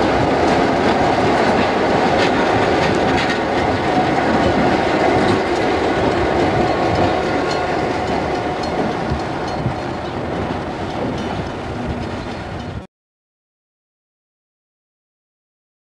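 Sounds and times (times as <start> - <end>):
diesel locomotive engine: 0.0 - 12.9
train wheels clicking on rail joints: 0.0 - 12.9.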